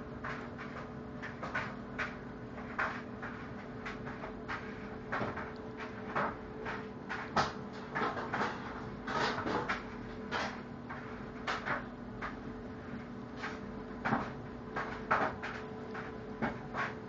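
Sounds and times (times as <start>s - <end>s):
faint steady hum: 0.0s - 17.0s
puppies nursing: 0.1s - 17.0s.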